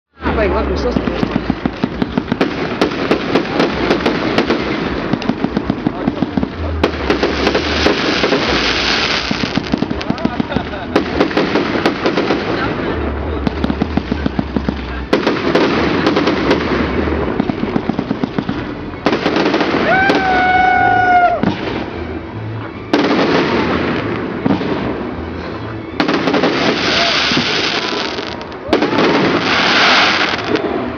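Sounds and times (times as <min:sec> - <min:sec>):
fireworks popping and crackling: 0:00.2 - 0:22.3, 0:22.9 - 0:30.9
crackling hiss: 0:00.2 - 0:30.9.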